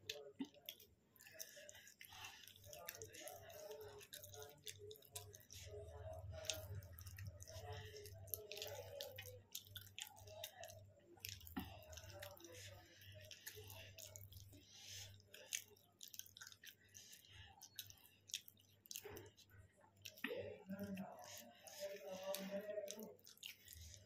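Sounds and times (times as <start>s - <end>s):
close-up chewing: 0.0s - 24.0s
wet mouth clicks: 0.0s - 24.0s.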